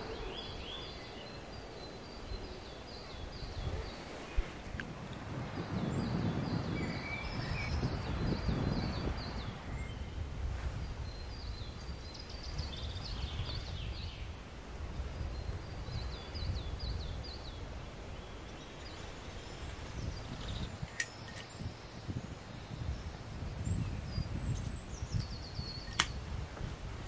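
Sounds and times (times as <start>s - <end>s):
small birds chirping: 0.0s - 4.9s, 5.5s - 26.5s.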